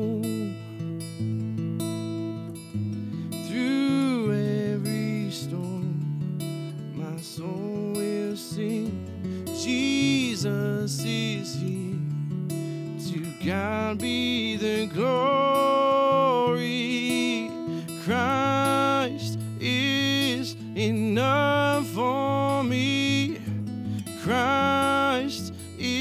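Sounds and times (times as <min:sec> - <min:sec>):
man singing a slow song: 0:00.0 - 0:01.0, 0:03.2 - 0:26.0
strummed acoustic guitar: 0:00.0 - 0:26.0.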